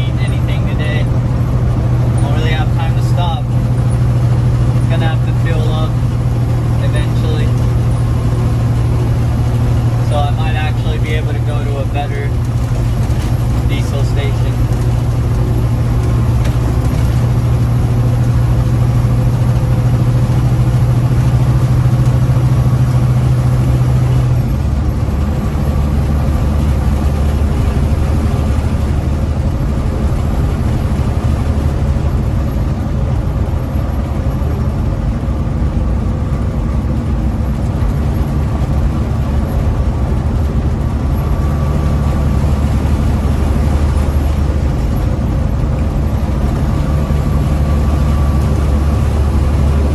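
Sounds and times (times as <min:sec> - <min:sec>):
diesel truck engine droning: 0:00.0 - 0:49.9.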